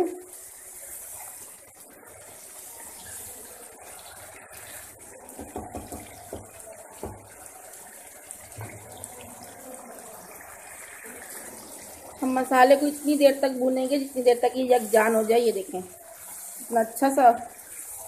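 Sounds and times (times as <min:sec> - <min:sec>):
food frying in oil: 0:00.0 - 0:18.0.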